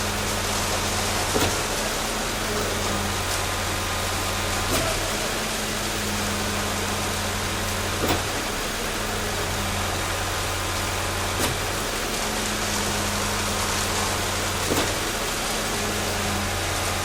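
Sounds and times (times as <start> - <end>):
low engine hum: 0.0 - 17.0
rain hiss: 0.0 - 17.0.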